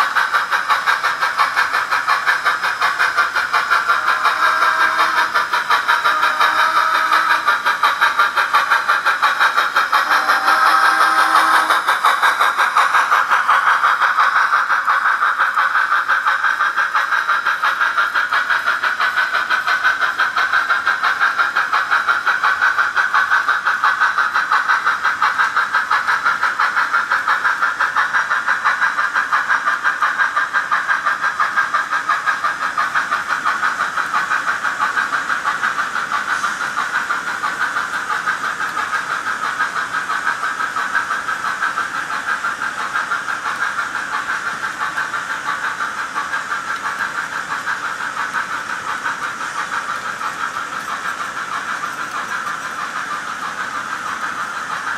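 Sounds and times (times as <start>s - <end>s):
model train running: 0.0s - 54.9s.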